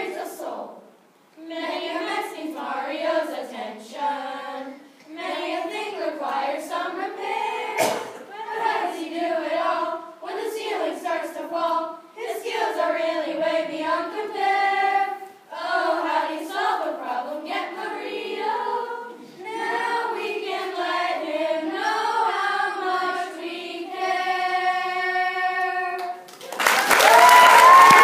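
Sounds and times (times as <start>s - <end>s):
children's choir singing: 0.0s - 26.3s.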